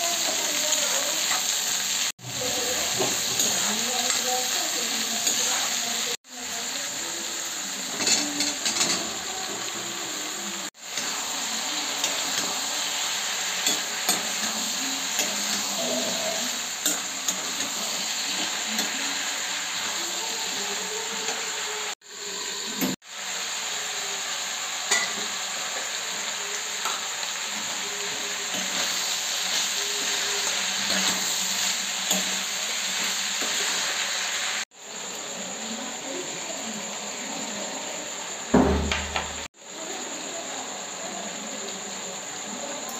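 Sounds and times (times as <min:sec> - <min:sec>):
vegetables sizzling in oil: 0:00.0 - 0:42.9.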